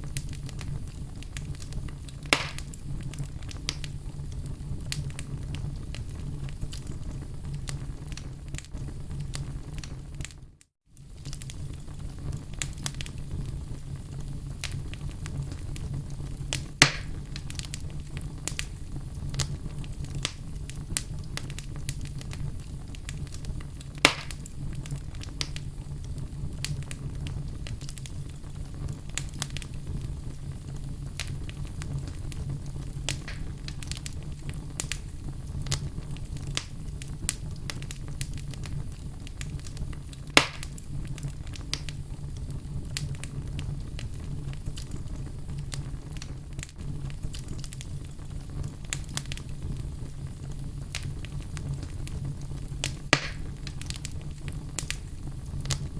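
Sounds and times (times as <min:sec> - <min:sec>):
burning logs popping: 0:00.0 - 0:55.9
wood fire crackling: 0:00.0 - 0:55.9.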